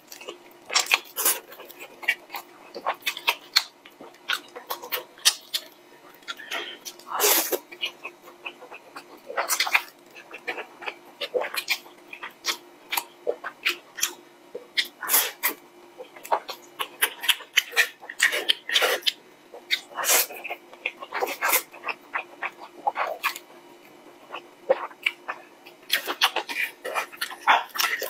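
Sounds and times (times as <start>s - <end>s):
wet chewing and lip smacks: 0.1s - 23.5s, 24.3s - 28.0s.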